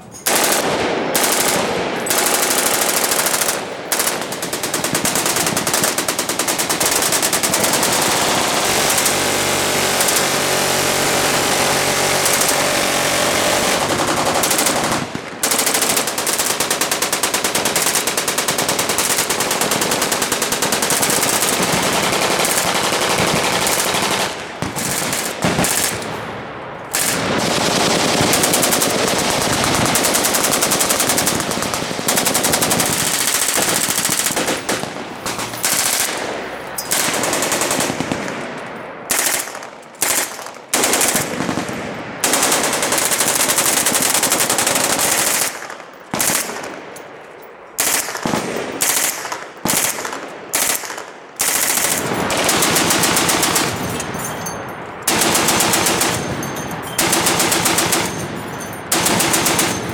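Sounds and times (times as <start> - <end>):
submachine gun automatic fire: 0.0 - 26.1, 26.9 - 38.5, 39.1 - 46.7, 47.8 - 54.0, 55.1 - 58.3, 58.9 - 59.9.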